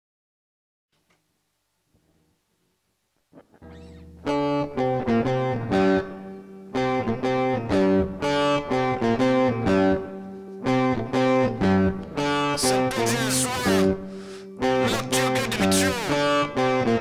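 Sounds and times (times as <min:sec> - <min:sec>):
solo guitar riff: 0:03.4 - 0:17.0.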